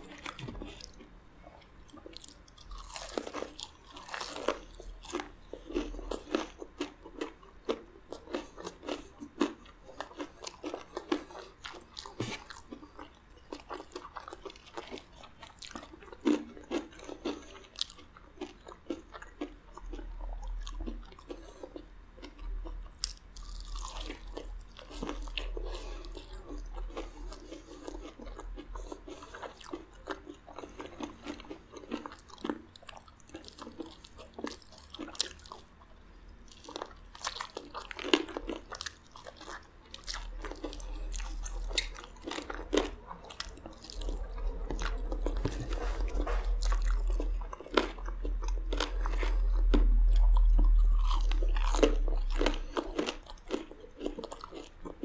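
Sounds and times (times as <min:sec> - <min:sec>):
crunchy fried chicken chewing: 0:00.0 - 0:55.0.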